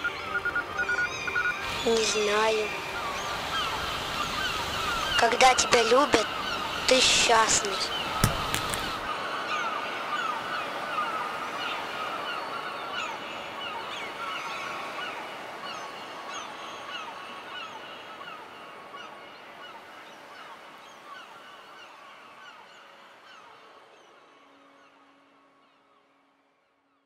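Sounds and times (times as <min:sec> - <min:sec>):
flock of birds calling: 0:00.0 - 0:25.8.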